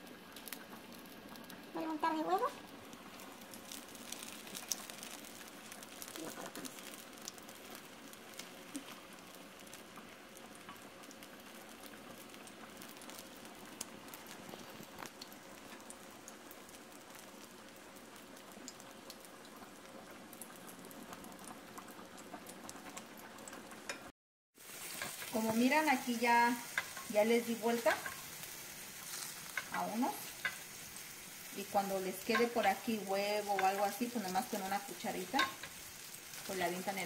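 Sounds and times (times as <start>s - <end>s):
food frying in hot oil: 0.0s - 37.0s.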